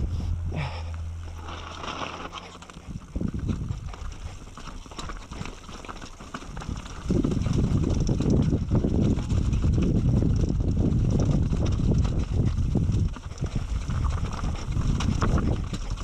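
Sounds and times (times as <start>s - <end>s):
mountain bike rattling rumble: 0.0s - 16.0s
wind noise on microphone: 0.0s - 16.0s.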